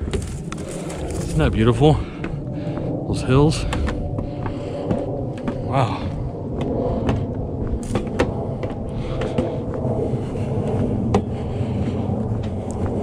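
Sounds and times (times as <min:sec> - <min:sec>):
footsteps on wooden boardwalk: 0:00.0 - 0:13.0
steady low rumble: 0:00.0 - 0:13.0.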